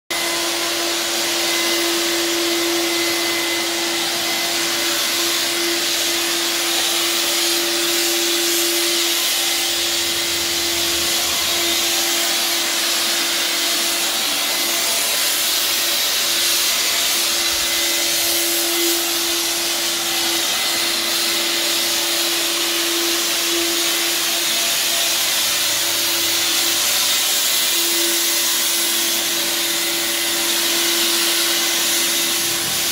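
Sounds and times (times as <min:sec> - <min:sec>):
fogger blower motor hum: 0:00.1 - 0:32.9
rushing hiss of air: 0:00.2 - 0:32.9.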